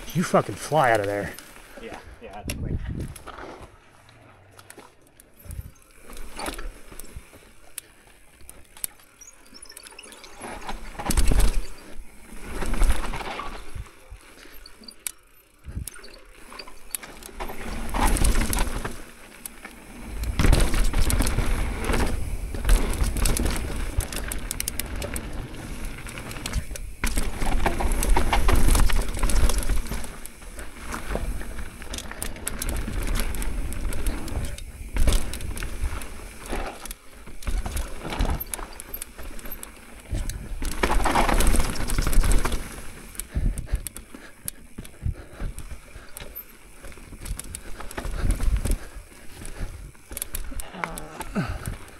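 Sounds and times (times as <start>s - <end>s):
bike tyre noise on trail: 0.0s - 51.9s
bike rattling over bumps: 2.9s - 51.9s.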